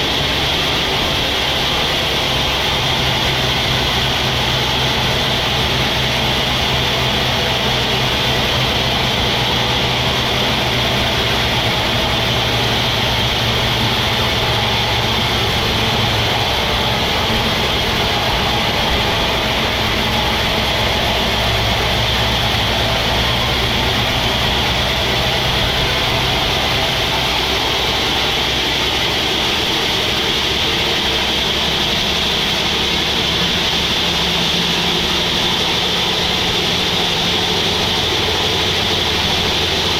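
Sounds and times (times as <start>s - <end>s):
deep engine hum: 0.0s - 39.9s
high machinery whine: 0.0s - 39.9s.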